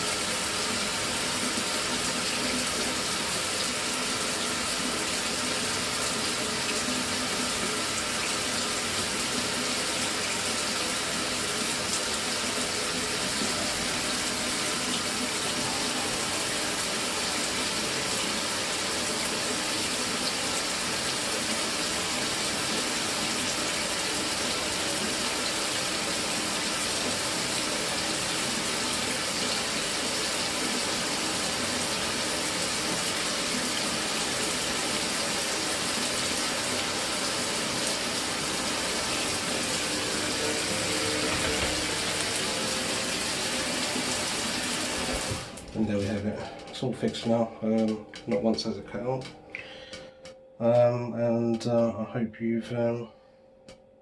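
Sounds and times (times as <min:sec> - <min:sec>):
electric shower water spraying: 0:00.0 - 0:45.7.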